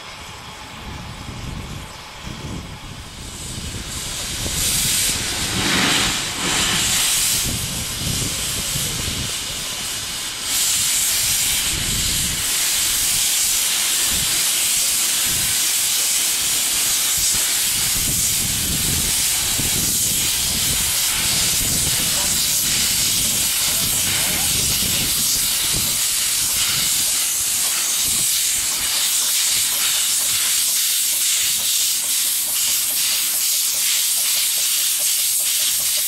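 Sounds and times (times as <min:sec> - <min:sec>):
steam hissing: 0:00.0 - 0:36.0.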